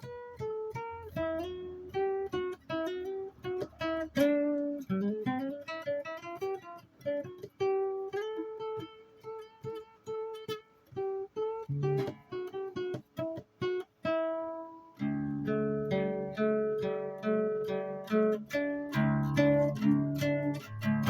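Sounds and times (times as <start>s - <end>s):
acoustic guitar picking melody: 0.0s - 21.0s.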